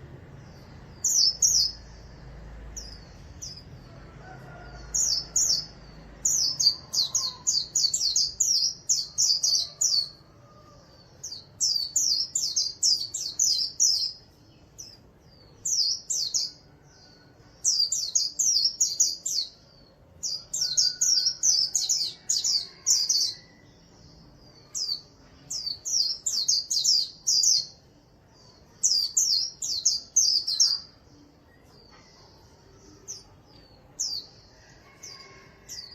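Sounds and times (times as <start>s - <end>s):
bird twittering song: 0.0s - 35.9s.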